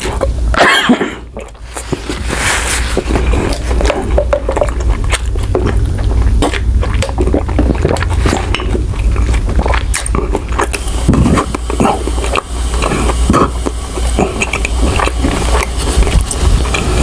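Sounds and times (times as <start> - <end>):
steady low hum: 0.0 - 17.0
wet squishy chewing: 0.0 - 17.0.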